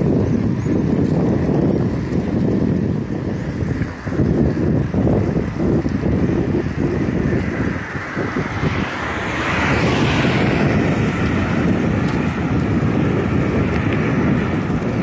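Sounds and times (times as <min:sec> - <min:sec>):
passing vehicle: 0:00.0 - 0:15.0
road traffic: 0:00.0 - 0:15.0
wind buffeting microphone: 0:00.0 - 0:15.0.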